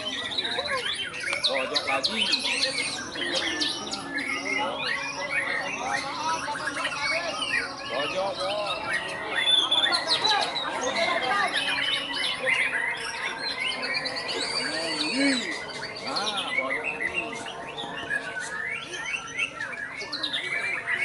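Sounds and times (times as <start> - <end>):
small birds chirping and whistling: 0.0 - 21.0.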